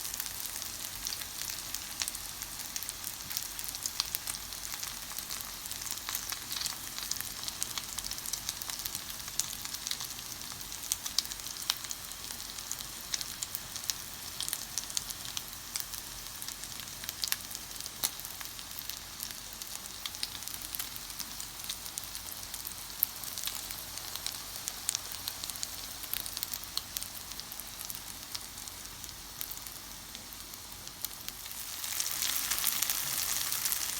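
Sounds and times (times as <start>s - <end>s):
batter sizzling in a frying pan: 0.0s - 33.9s.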